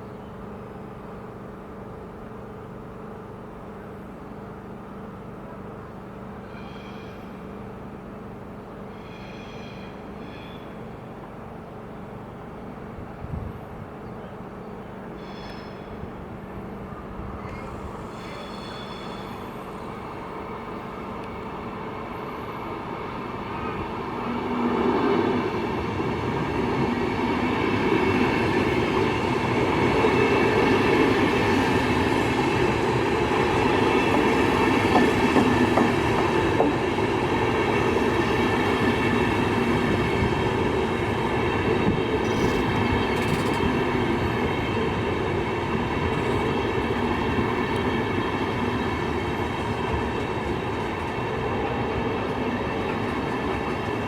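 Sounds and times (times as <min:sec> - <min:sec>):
train rail noise: 0:00.5 - 0:54.0.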